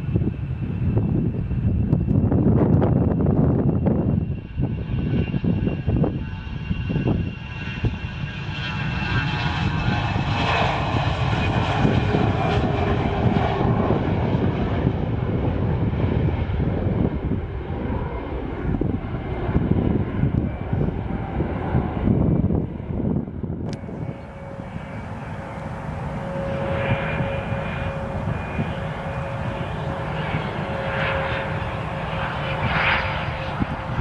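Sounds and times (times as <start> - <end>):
jet engines passing: 0.0 - 34.0.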